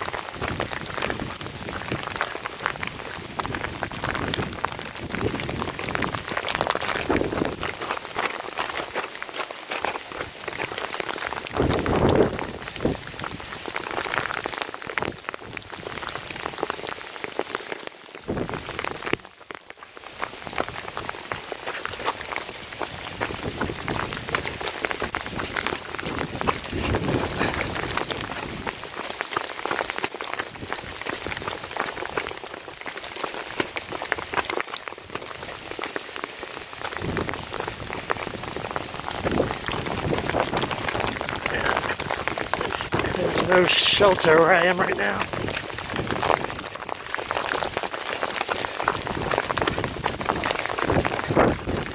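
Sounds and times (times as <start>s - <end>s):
hail pattering: 0.0s - 51.9s.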